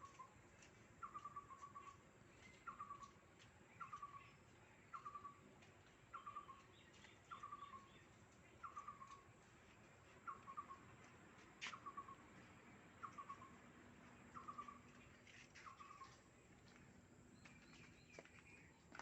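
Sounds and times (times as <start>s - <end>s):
faint high bird chirps: 0.0s - 9.4s, 10.2s - 11.0s, 11.6s - 19.0s.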